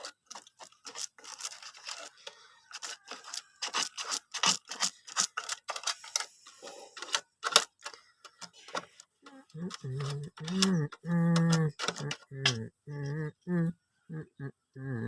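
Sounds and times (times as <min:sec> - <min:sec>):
objects being handled: 0:00.0 - 0:13.3.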